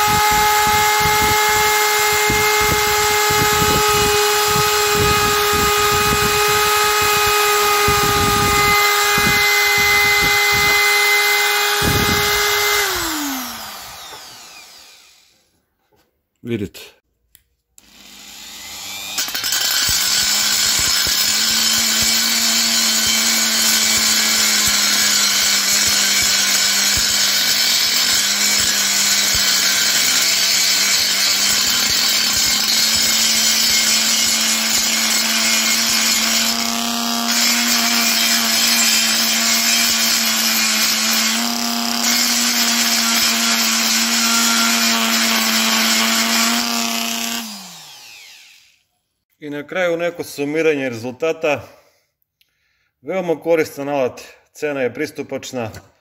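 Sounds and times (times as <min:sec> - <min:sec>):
die grinder whining: 0:00.0 - 0:15.5, 0:17.8 - 0:48.9.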